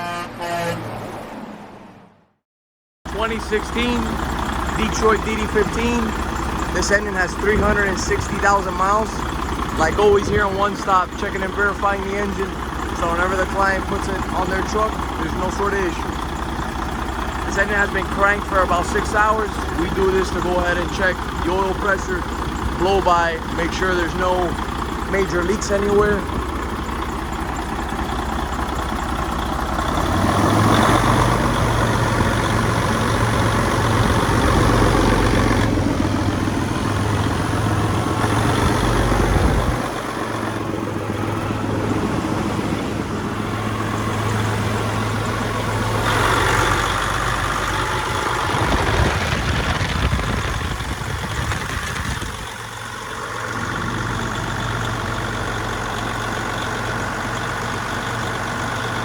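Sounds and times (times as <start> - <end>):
diesel engine running: 3.0 - 59.0.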